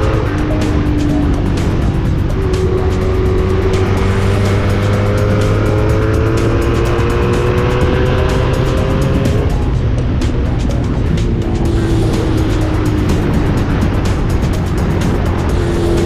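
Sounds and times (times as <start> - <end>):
motorcycle engine accelerating: 0.0 - 16.0
wind rushing over microphone: 0.0 - 16.0.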